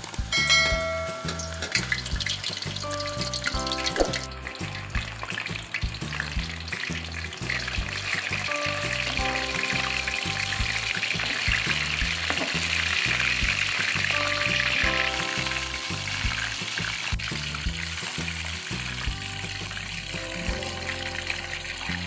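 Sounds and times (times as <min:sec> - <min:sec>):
background music with bass beat: 0:00.0 - 0:22.0
meatballs deep-frying sizzle: 0:00.0 - 0:22.0.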